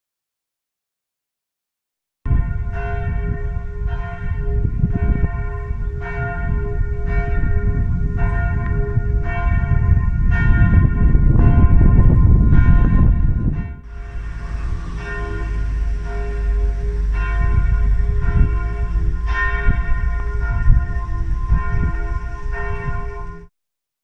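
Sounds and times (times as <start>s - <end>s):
church bells ringing: 2.3s - 23.5s
heavy low rumble: 2.3s - 23.5s.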